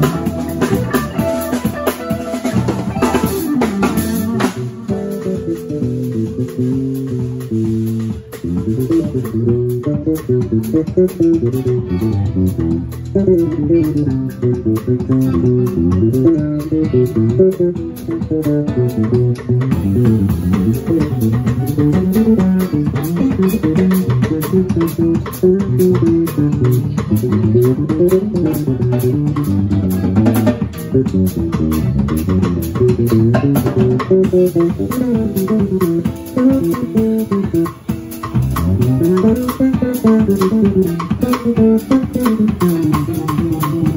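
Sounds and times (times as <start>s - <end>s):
drum kit: 0.0s - 43.9s
electric bass guitar line: 0.0s - 43.9s
electric guitar: 0.0s - 43.9s
keyboard: 0.0s - 43.9s.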